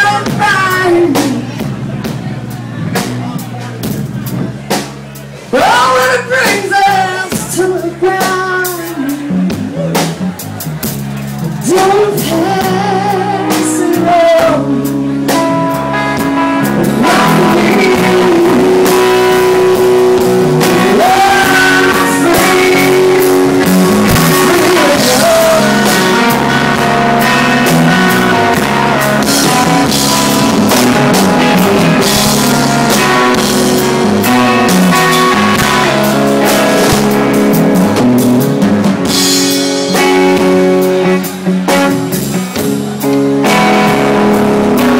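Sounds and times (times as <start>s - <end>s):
rock blues band jamming: 0.0s - 44.9s.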